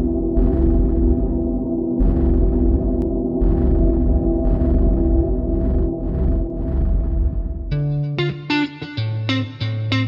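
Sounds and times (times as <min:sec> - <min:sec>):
ambient music with low chords: 0:00.0 - 0:10.0.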